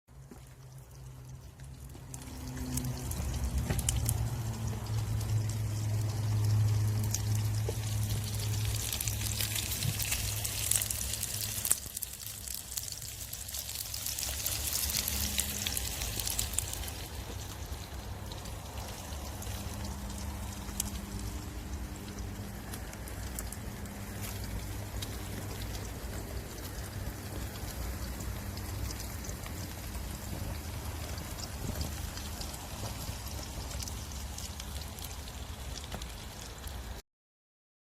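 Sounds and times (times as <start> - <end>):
fire log burning with crackles: 0.1 - 37.0
low fire rumble: 0.1 - 37.0.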